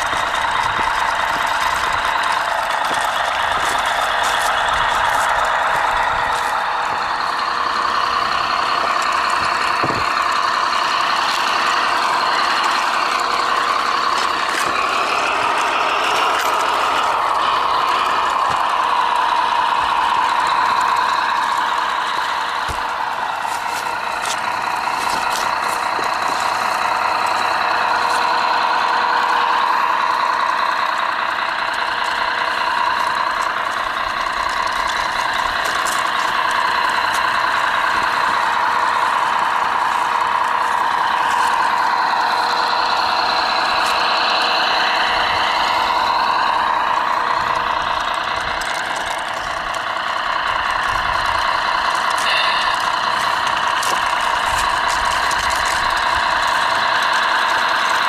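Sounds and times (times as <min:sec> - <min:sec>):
toy truck motor whine: 0:00.0 - 0:58.0.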